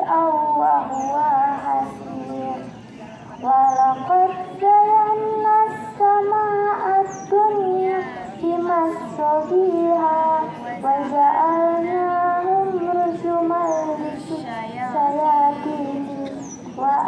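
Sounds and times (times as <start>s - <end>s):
woman reciting in melodic chant: 0.0s - 17.0s.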